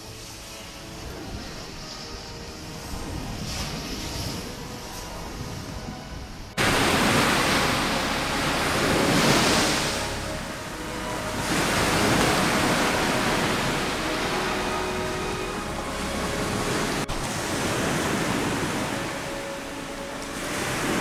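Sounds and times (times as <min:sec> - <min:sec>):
ocean surf breaking on sand: 0:00.2 - 0:21.0.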